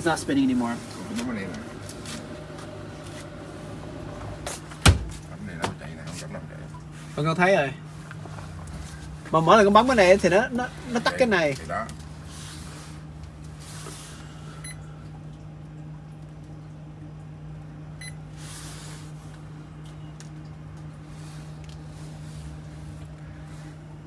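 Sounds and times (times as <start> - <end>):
refrigerator humming: 0.0 - 24.0.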